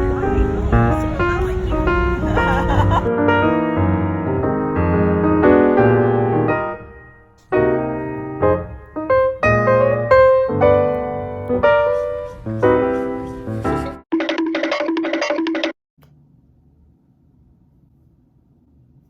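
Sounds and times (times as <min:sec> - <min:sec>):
piano music: 0:00.0 - 0:15.7.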